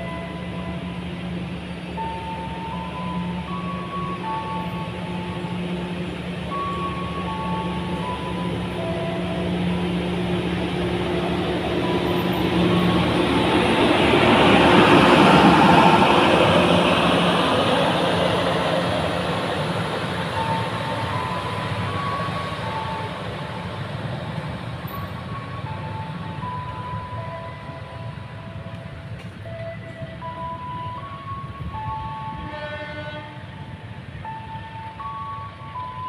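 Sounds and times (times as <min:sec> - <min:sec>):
diesel generator humming: 0:00.0 - 0:36.0
train wheels rolling: 0:00.8 - 0:32.4.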